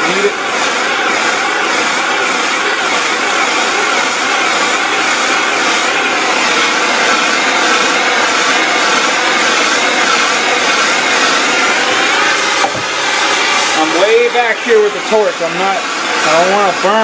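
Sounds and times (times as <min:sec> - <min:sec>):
gas torch roaring hiss: 0:00.0 - 0:17.0.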